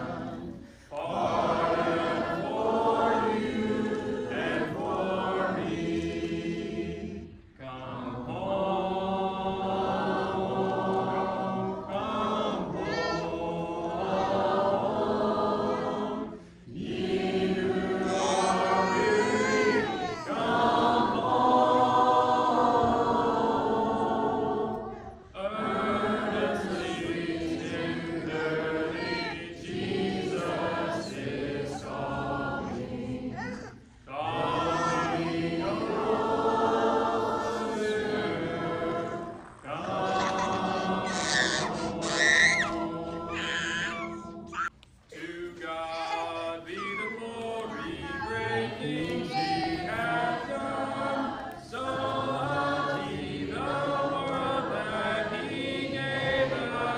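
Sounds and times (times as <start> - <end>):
congregation singing a hymn: 0.0 - 56.9.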